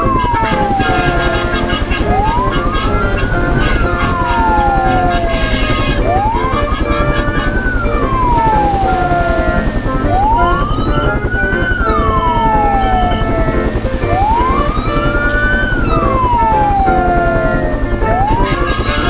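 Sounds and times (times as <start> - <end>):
background music with beat: 0.0 - 19.0
wailing siren: 0.0 - 19.0.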